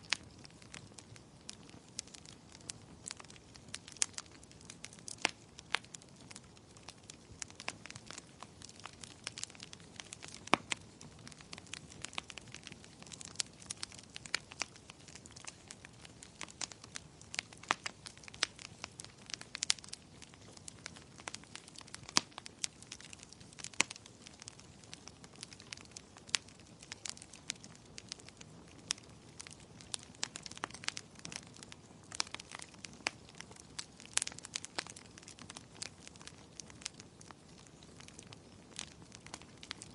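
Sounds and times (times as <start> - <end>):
sharp pops and snaps: 0.0 - 39.9
soft hiss of fire: 0.0 - 39.9
wood fire crackling: 0.0 - 39.9.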